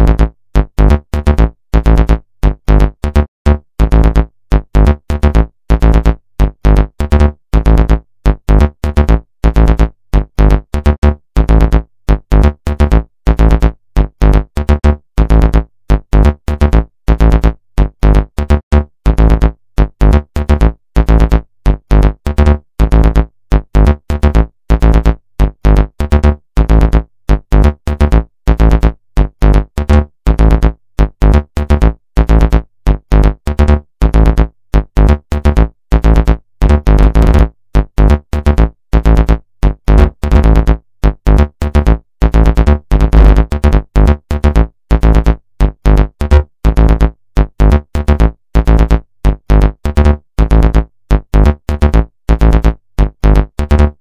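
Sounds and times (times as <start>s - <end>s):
music with choppy beat and heavy bass: 0.0s - 54.0s.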